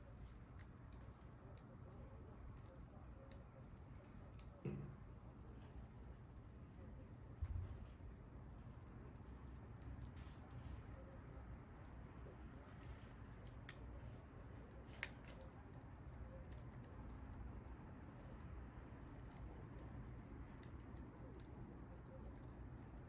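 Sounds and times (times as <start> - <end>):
bonfire crackling: 0.0 - 23.0
fire popping: 0.0 - 23.0.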